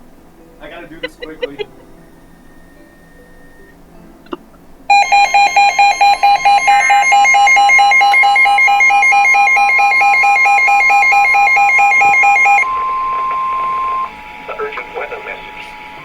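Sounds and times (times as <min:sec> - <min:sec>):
steady alarm tone: 0:00.0 - 0:03.8, 0:04.8 - 0:16.0
rapidly pulsing electronic beep: 0:00.6 - 0:03.8, 0:04.9 - 0:16.0.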